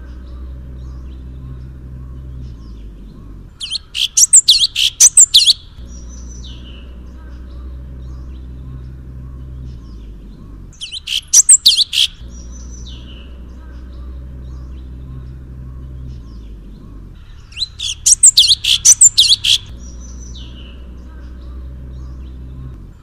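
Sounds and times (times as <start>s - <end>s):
songbird rapid chirps and whistles: 0.0s - 22.8s
faint soft bird twittering: 0.0s - 23.0s
steady low hum: 0.0s - 23.0s.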